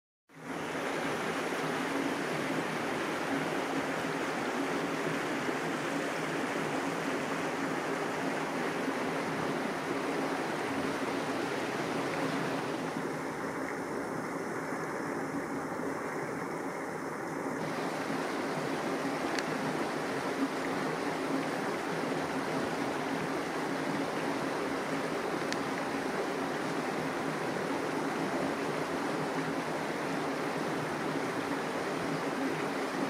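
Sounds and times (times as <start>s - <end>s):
steady rushing noise: 0.4s - 33.0s.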